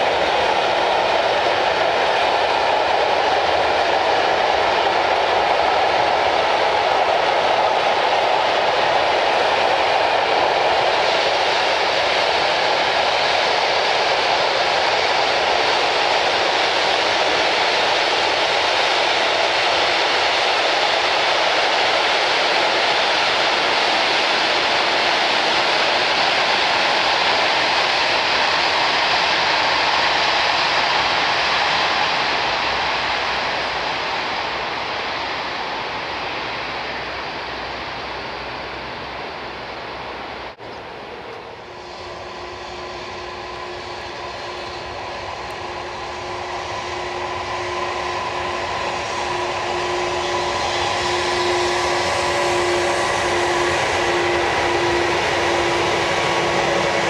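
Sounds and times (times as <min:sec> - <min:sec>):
electric locomotive hum: 0:00.0 - 0:57.0
freight train wheels rushing: 0:00.0 - 0:57.0.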